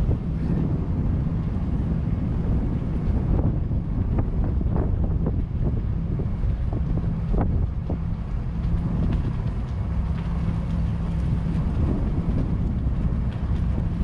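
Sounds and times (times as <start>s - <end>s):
steady low hum: 0.0s - 14.0s
wind on microphone: 0.0s - 14.0s.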